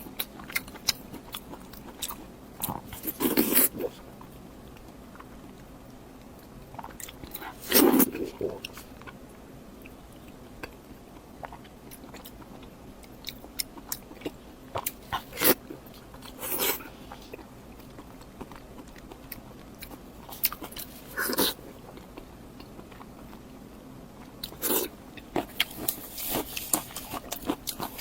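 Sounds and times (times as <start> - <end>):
chewing: 0.0 - 9.2, 9.8 - 23.5, 24.2 - 28.0.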